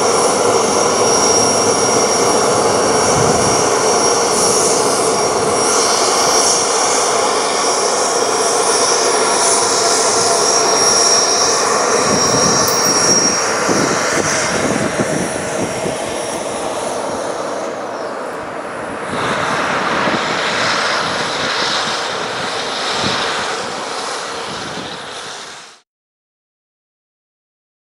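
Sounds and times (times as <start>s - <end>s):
high turbine whine: 0.0s - 25.8s
jet engine rush: 0.0s - 25.8s.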